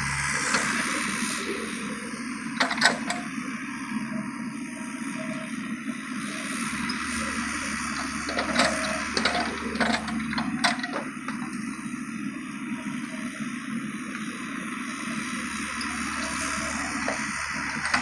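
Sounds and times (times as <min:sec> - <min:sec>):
mini excavator running: 0:00.0 - 0:18.0.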